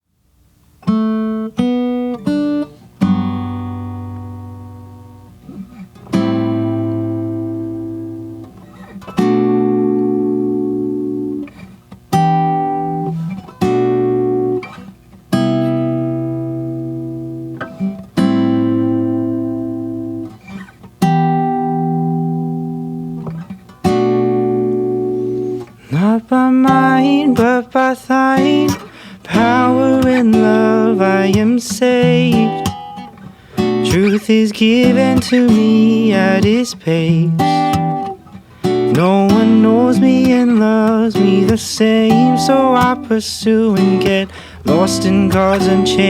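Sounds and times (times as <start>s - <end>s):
guitar plucked notes and chords: 0.8s - 46.0s.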